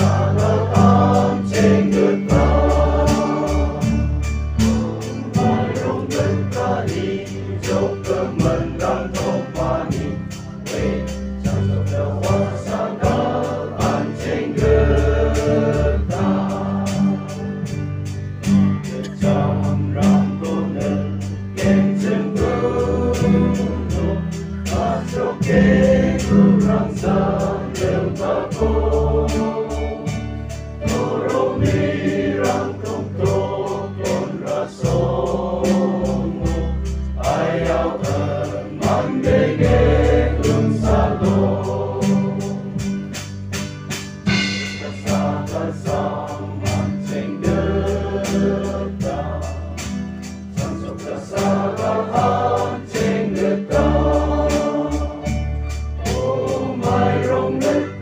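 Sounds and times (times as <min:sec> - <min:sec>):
choir singing gospel song: 0:00.0 - 0:43.6, 0:44.2 - 0:58.0
steady beat and bass: 0:00.0 - 0:58.0.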